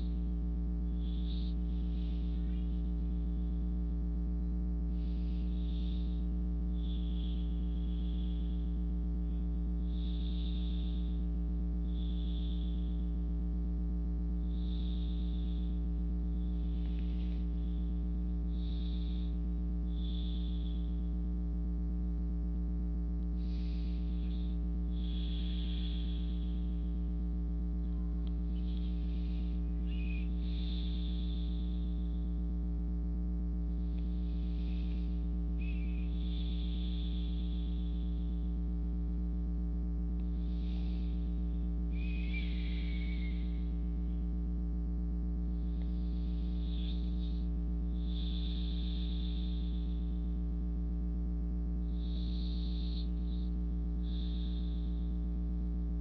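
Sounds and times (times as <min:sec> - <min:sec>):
slow deep breathing: 0:00.0 - 0:56.0
steady low hum: 0:00.0 - 0:56.0.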